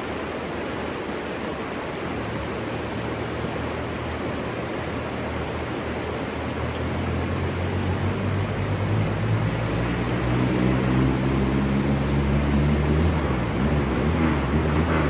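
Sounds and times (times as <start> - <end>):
distant engine hum: 0.0 - 15.0
river water rushing: 0.0 - 15.0.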